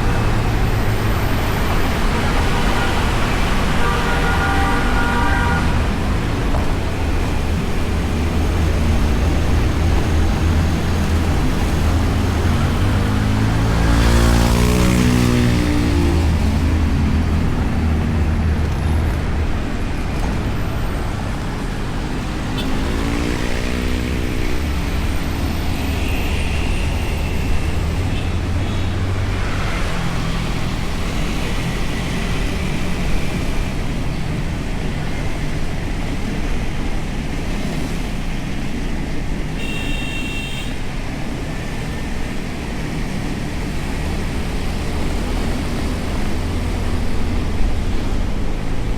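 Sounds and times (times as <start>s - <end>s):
passing vehicles: 0.0s - 48.9s
wind and road rush: 0.0s - 48.9s.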